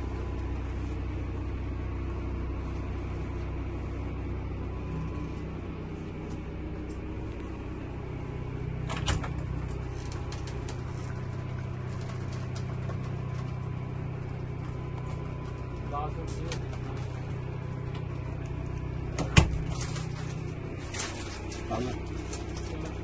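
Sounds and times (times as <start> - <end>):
low vehicle cabin rumble: 0.0 - 23.0.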